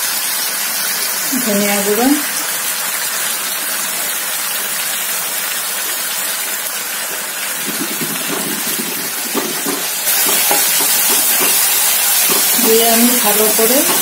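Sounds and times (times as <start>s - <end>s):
paste sizzling in hot oil: 0.0s - 14.0s.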